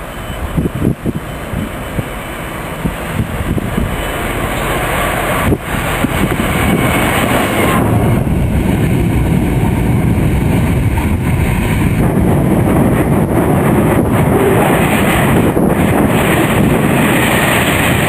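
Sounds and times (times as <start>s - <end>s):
freight train passing: 0.0s - 18.0s.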